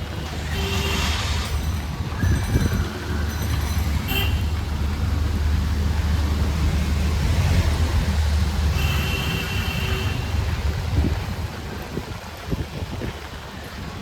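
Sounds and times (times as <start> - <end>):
motor vehicle rumbling: 0.0 - 14.0
street traffic: 0.0 - 14.0.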